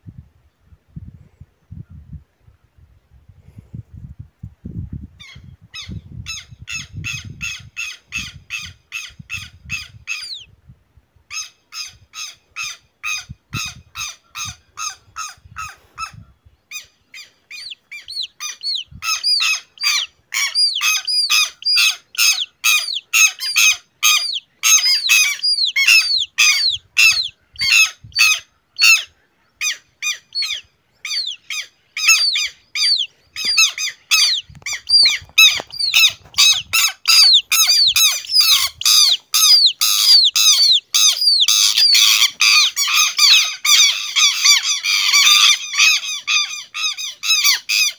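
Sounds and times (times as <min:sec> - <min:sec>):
lapwing alarm calls: 0:05.2 - 0:10.5, 0:11.3 - 0:47.9.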